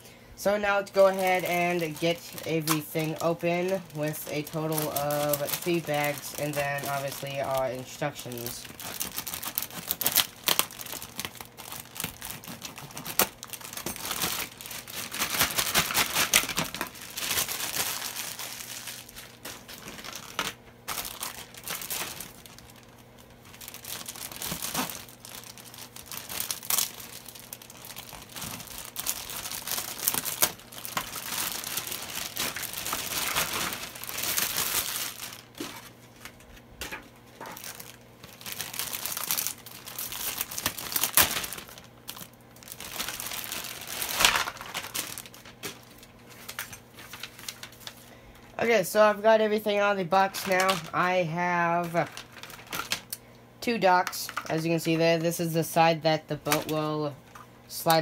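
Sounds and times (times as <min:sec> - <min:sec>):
plastic bags crinkling: 0:00.4 - 0:55.4, 0:56.3 - 0:58.0.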